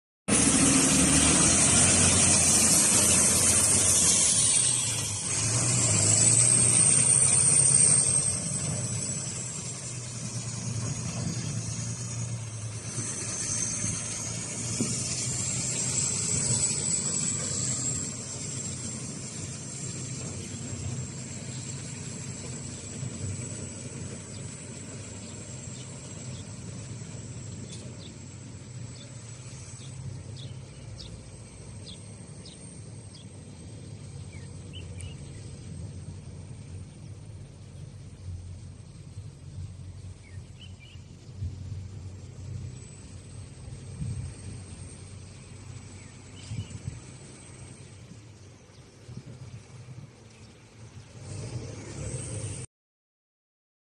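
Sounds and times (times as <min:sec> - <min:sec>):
high whine: 0:00.3 - 0:52.7
truck diesel engine humming: 0:00.3 - 0:52.7.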